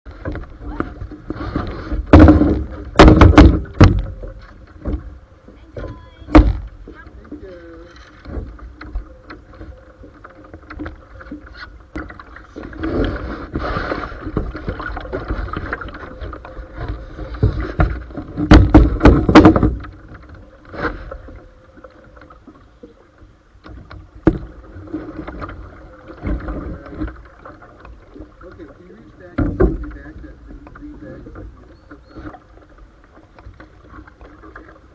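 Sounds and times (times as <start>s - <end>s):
paddle splashing water: 0.0s - 34.9s
knocks and clicks on canoe: 0.1s - 34.9s.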